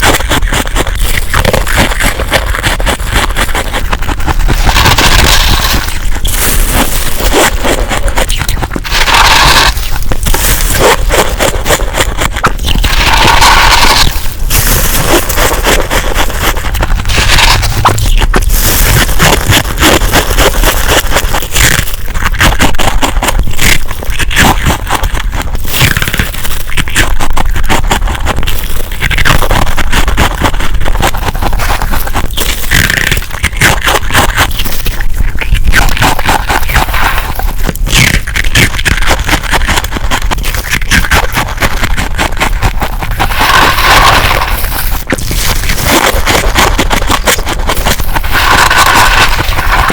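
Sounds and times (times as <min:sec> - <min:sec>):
frost crunching: 0:00.0 - 0:49.9.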